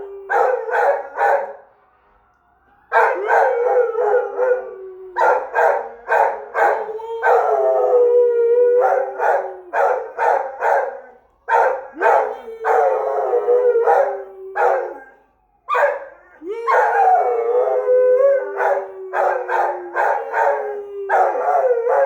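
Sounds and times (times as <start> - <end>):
dog yipping and howling: 0.0 - 1.5, 2.9 - 15.0, 15.7 - 22.0.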